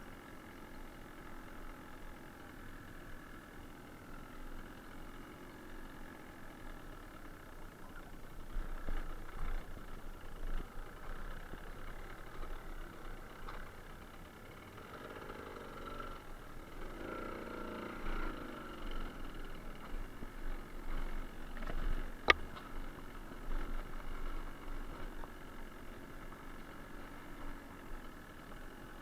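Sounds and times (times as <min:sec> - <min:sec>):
two-stroke motorcycle engine: 0:00.0 - 0:29.0.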